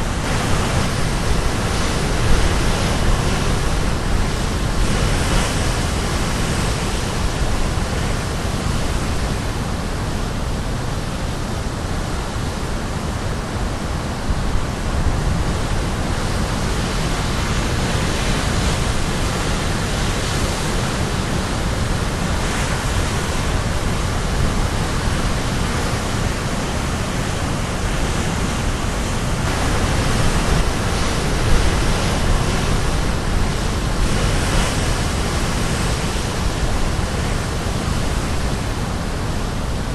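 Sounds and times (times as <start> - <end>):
surf breaking on rocky shore: 0.0 - 9.6, 14.2 - 39.9.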